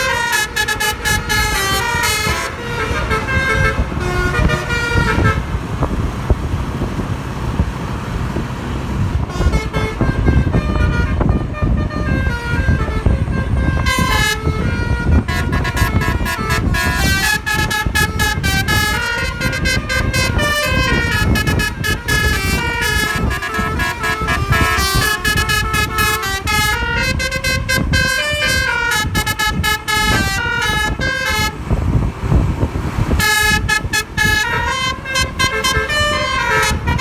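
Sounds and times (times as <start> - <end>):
musical air horn melody: 0.0 - 5.5, 9.3 - 31.6, 33.2 - 37.0
truck engine and road rumble: 0.0 - 37.0.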